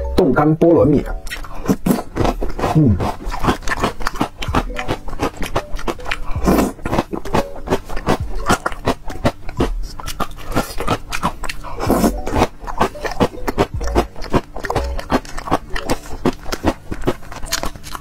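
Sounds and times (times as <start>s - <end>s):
crunchy chewing: 1.2s - 18.0s.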